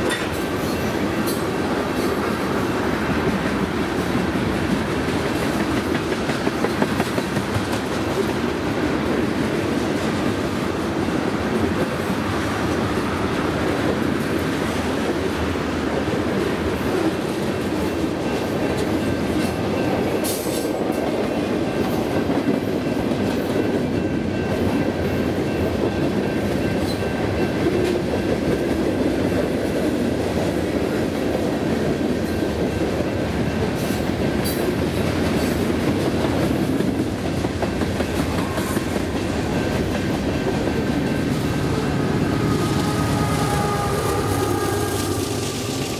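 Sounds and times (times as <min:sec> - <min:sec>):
freight train wheels rumbling on rail: 0:00.0 - 0:45.9.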